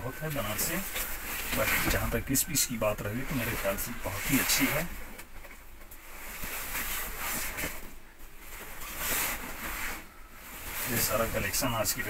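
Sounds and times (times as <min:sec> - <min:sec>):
silk fabric rustling: 0:00.3 - 0:05.0, 0:06.0 - 0:12.0.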